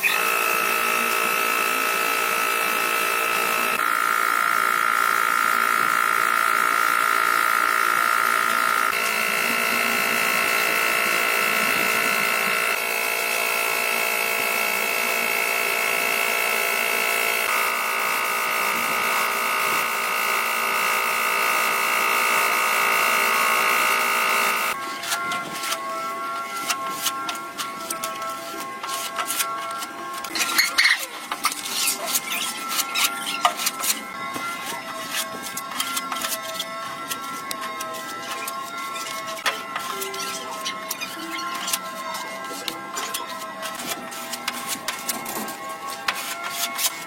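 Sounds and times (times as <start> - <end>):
small electric motor whining: 0.0 - 47.0.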